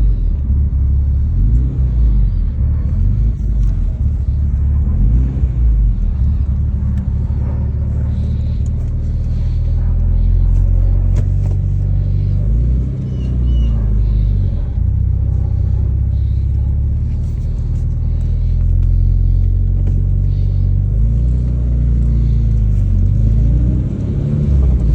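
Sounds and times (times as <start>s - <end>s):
car engine running: 0.0s - 24.9s.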